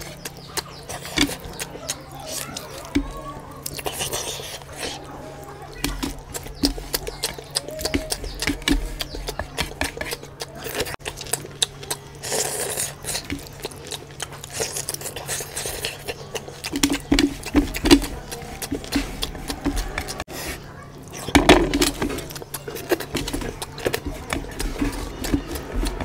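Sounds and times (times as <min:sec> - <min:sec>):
hand squishing rice on plate: 0:00.0 - 0:26.0
mouth chewing and smacking: 0:00.0 - 0:26.0.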